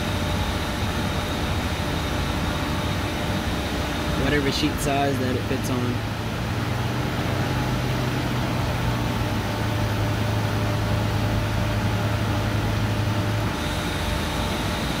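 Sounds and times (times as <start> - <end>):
faint high whine: 0.0 - 15.0
shop machinery humming: 0.0 - 15.0.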